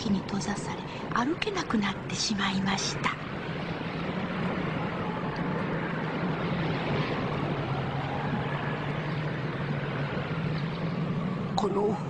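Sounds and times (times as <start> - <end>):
blizzard wind rushing: 0.0 - 12.0.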